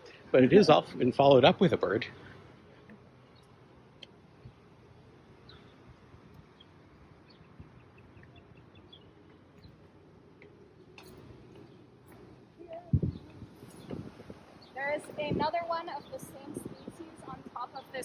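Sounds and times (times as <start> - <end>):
outdoor background hum: 0.0 - 18.0.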